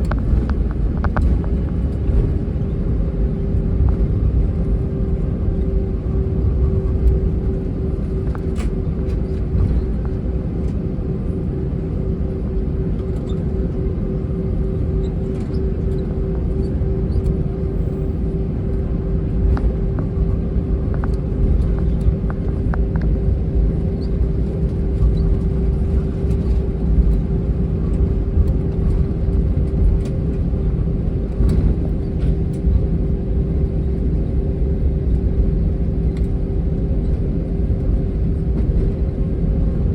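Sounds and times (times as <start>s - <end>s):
aircraft cabin rumble: 0.0s - 39.9s
constant hum: 0.0s - 39.9s.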